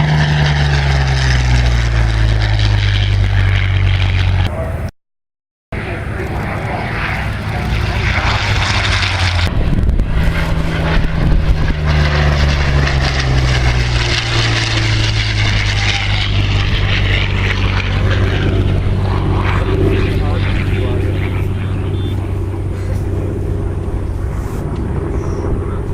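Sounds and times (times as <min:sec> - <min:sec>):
propeller plane flying past: 0:00.0 - 0:04.9, 0:05.7 - 0:25.9.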